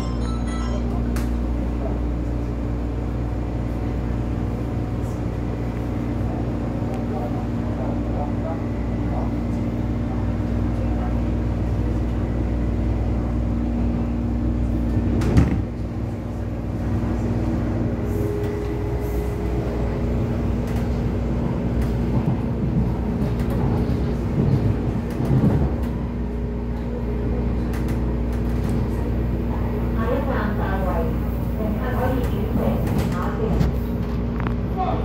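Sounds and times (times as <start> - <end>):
electric train rumble: 0.0 - 35.0.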